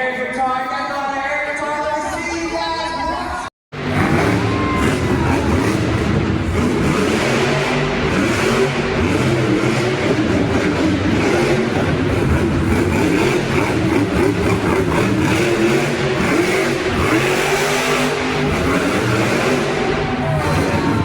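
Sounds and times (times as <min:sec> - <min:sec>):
monster truck engine revving: 0:03.8 - 0:21.0.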